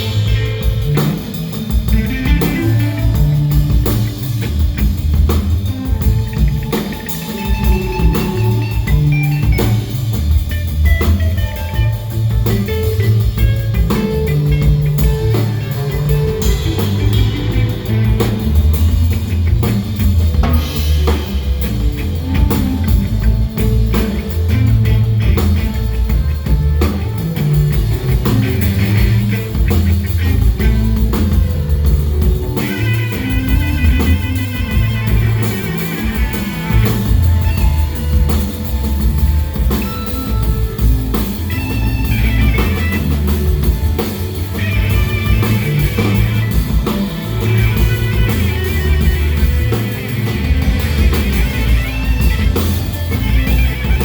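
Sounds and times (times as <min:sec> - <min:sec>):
bass line: 0:00.0 - 0:54.0
drum kit: 0:00.0 - 0:54.0.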